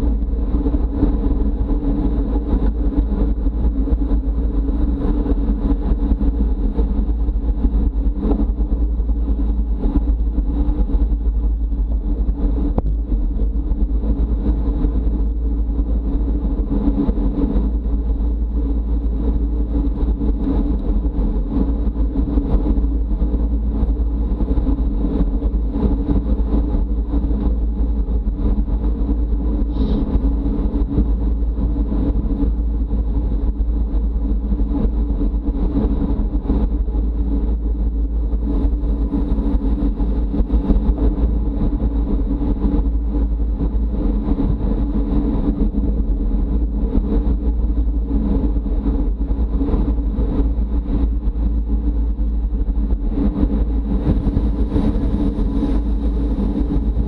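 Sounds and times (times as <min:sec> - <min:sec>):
wind on camera microphone: 0:00.0 - 0:57.0.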